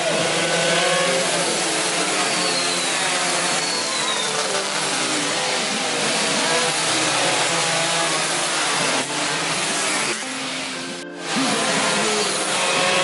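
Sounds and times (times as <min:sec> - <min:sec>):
race motorcycles revving: 0:00.0 - 0:13.0.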